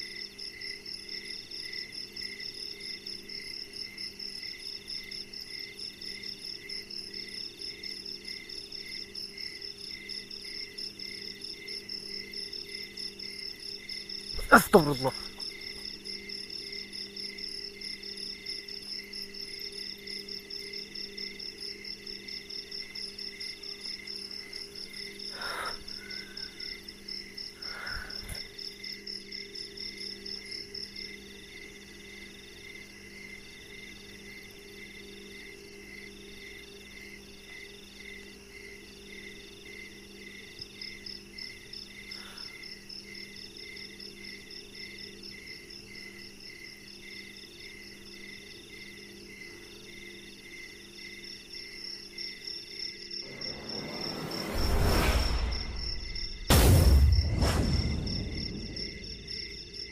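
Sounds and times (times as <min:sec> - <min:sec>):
crickets trilling: 0:00.0 - 0:56.6, 0:57.2 - 0:59.9
low insect drone: 0:00.0 - 0:56.6, 0:57.4 - 0:59.9.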